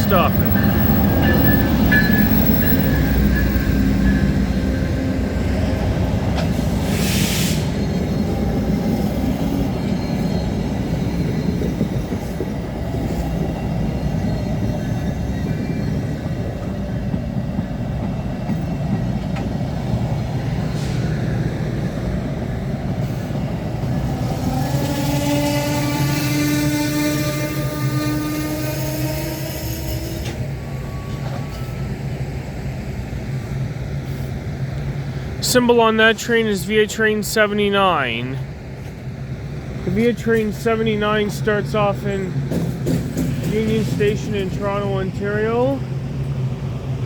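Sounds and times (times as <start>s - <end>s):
train rumbling on rails: 0.0s - 47.0s.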